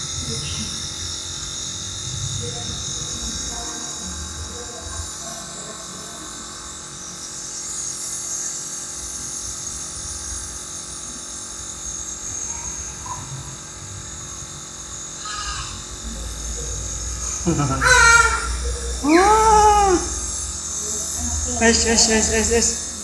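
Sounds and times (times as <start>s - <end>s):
small motor hum: 0.0s - 23.0s.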